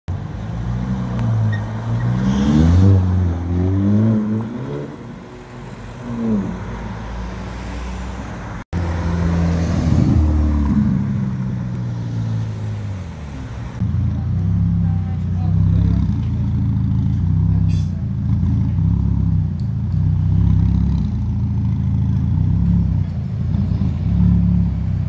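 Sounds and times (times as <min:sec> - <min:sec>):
car engine revving and accelerating: 0:00.2 - 0:25.0.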